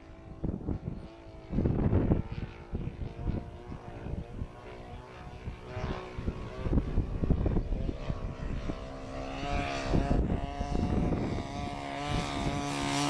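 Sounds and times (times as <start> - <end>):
model plane engine buzzing: 0.0 - 13.0
wind on microphone: 0.0 - 13.0.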